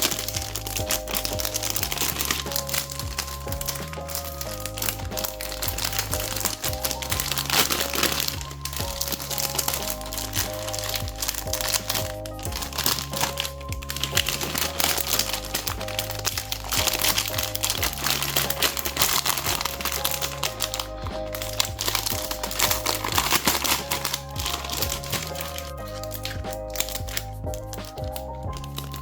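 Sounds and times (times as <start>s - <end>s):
background music with bass: 0.0s - 29.0s
packaging crinkling: 0.0s - 29.0s.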